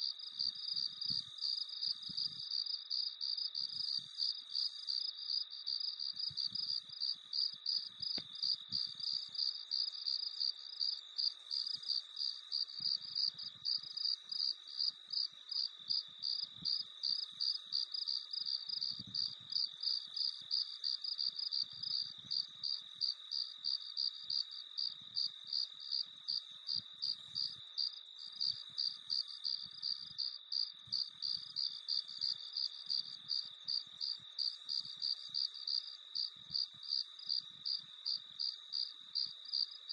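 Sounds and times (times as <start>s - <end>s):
crickets chirping: 0.0s - 39.9s
faint insect hum: 0.0s - 39.9s.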